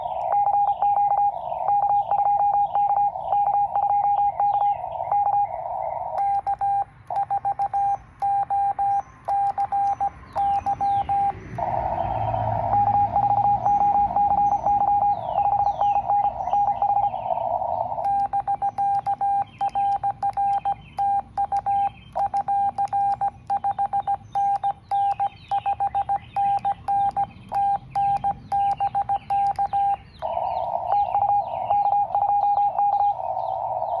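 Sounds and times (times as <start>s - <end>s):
morse code beeps: 0.0s - 34.0s.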